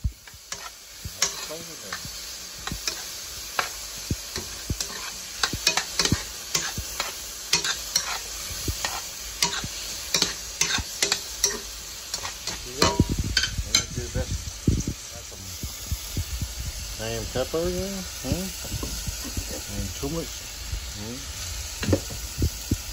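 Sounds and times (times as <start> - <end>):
vegetables sizzling: 0.0 - 22.9
utensil scraping a skillet: 0.2 - 20.4.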